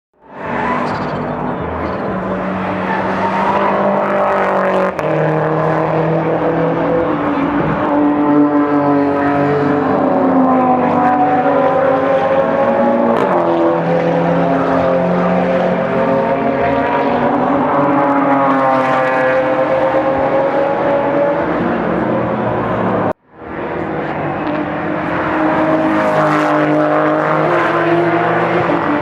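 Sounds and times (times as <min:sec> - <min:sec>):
racing car engines accelerating: 0:00.2 - 0:29.0.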